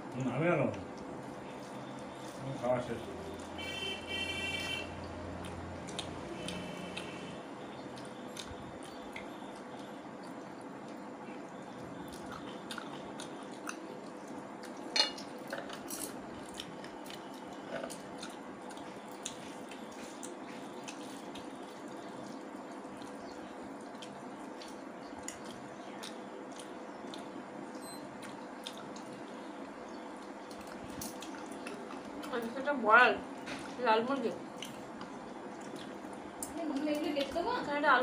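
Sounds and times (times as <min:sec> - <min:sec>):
steady background hum: 0:00.0 - 0:38.0
chewing: 0:05.4 - 0:32.6, 0:34.4 - 0:37.6.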